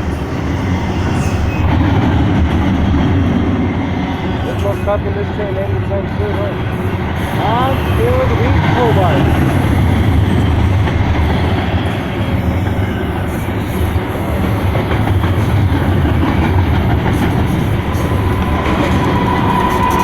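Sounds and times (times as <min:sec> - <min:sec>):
freight train rumbling past: 0:00.0 - 0:20.0
wheels clickety-clack on rails: 0:00.0 - 0:20.0.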